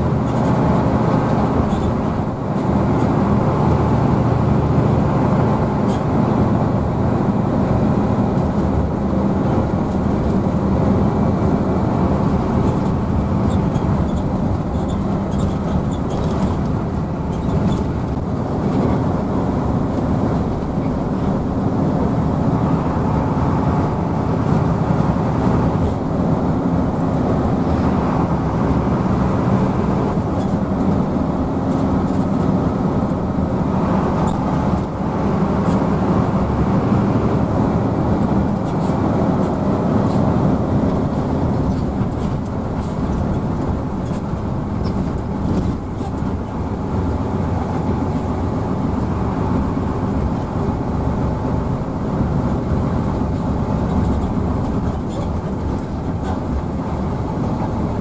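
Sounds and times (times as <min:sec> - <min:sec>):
diesel engine drone: 0:00.0 - 0:58.0
road noise: 0:00.0 - 0:58.0.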